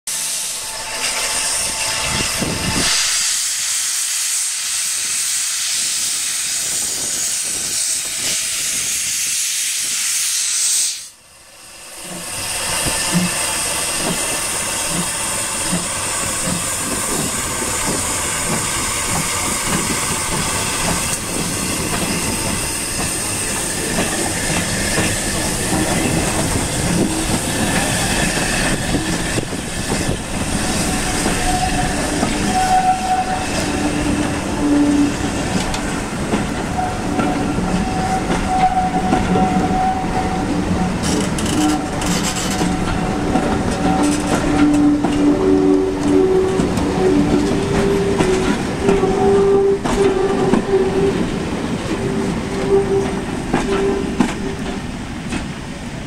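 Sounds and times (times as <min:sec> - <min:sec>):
steam locomotive exhaust chuffs: 0:00.1 - 0:11.2, 0:11.9 - 0:55.6
steam hissing: 0:00.1 - 0:55.2.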